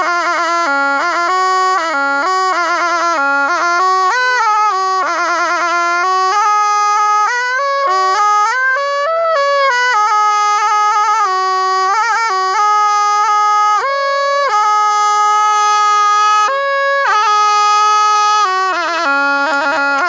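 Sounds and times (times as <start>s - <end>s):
reed oboe solo melody: 0.0s - 20.0s.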